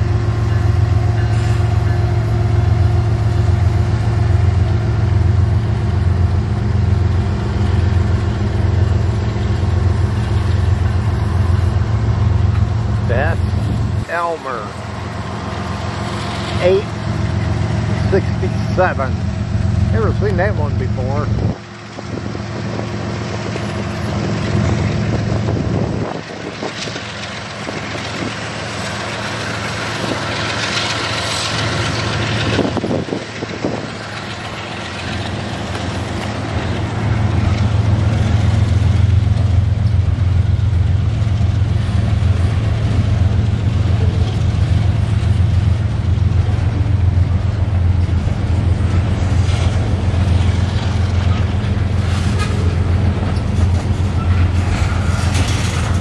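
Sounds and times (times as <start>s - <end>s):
freight cars rolling on rails: 0.0s - 56.0s
locomotive engine humming: 0.0s - 56.0s.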